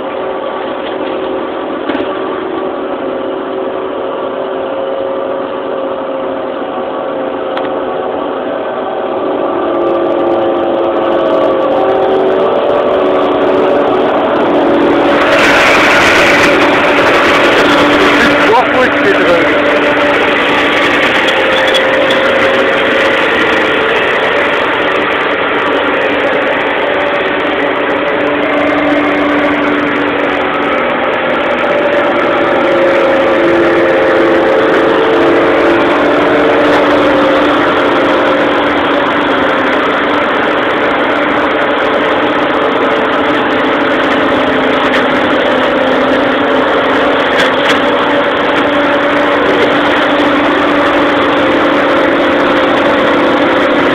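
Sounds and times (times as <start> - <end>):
flail mower cutter whirring: 0.0 - 53.9
tractor engine running: 0.0 - 53.9.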